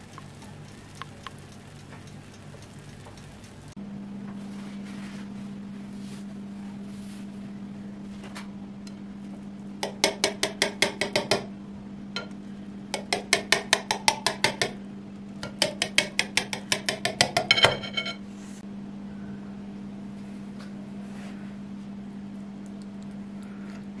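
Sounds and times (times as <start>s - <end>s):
steady low hum: 0.0s - 13.6s, 17.8s - 24.0s.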